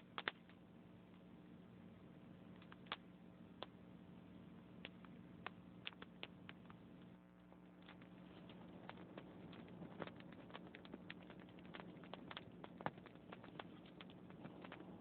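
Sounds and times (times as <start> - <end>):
logs crackling in fireplace: 0.0 - 15.0
low steady hum: 0.0 - 15.0.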